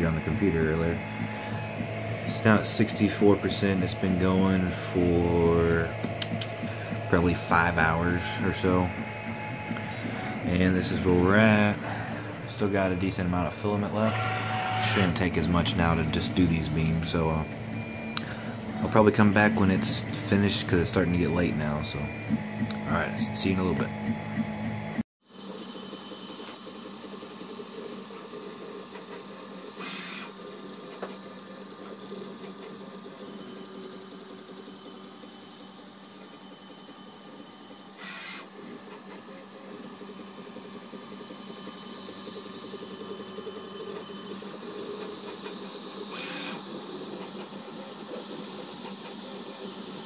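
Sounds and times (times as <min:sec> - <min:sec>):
printer motors and fans whirring: 0:00.0 - 0:50.0.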